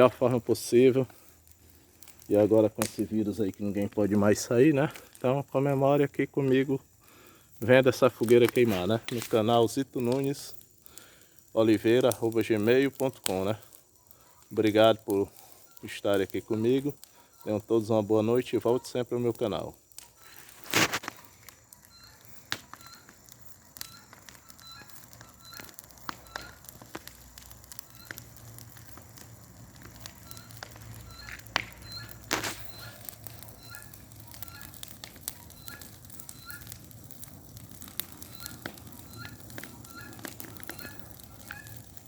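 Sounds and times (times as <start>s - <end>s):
bonfire crackling: 0.0s - 42.0s
loud pops from fire: 0.0s - 42.0s.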